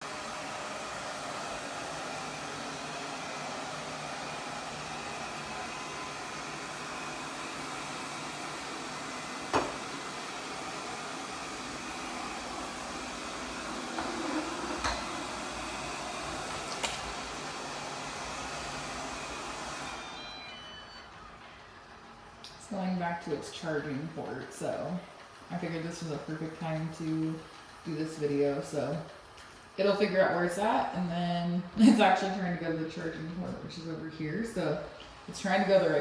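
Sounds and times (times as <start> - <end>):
robot vacuum whirring: 0.0 - 30.9.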